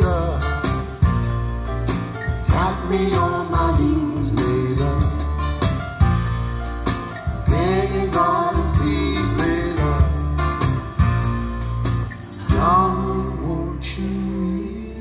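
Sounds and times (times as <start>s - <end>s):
song with singing and drum beat: 0.0s - 11.2s, 12.4s - 14.2s.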